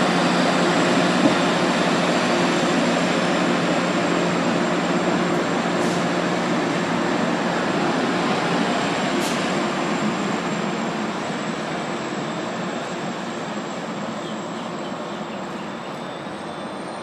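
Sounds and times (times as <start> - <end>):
low train engine drone: 0.0 - 17.0
train coaches rumbling past: 0.0 - 17.0.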